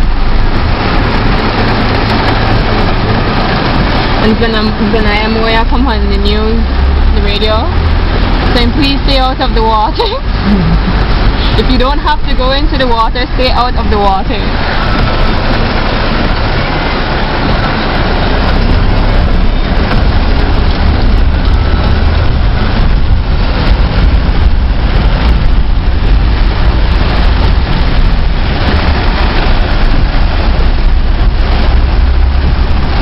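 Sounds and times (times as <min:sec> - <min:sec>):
low engine and road rumble: 0:00.0 - 0:33.0
rush of water and rain: 0:00.0 - 0:33.0.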